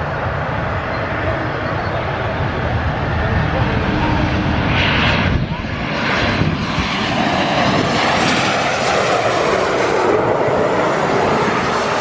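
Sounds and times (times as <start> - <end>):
airliner engines passing: 0.0 - 12.0.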